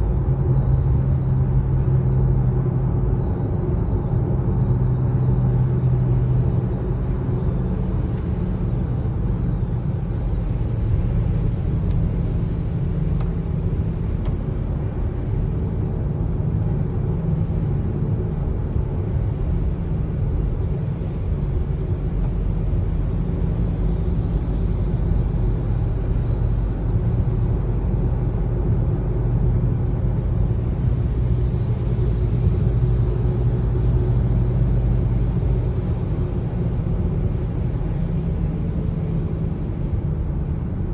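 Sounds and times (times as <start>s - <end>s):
car low hum: 0.0s - 40.9s
road rumble: 0.0s - 40.9s.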